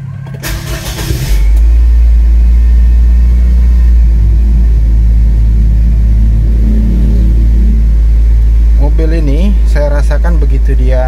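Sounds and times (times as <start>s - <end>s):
car engine running at high idle: 0.0s - 11.0s.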